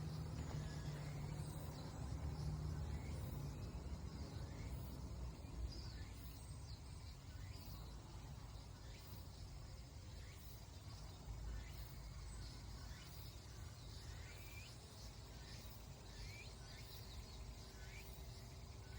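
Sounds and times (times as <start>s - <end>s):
bird chirping: 0.0s - 18.9s.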